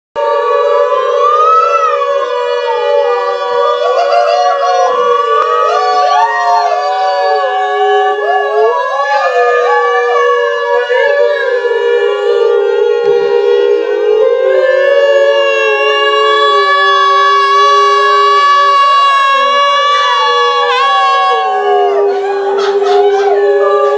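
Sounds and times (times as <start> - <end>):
group chanting om: 0.2 - 23.9.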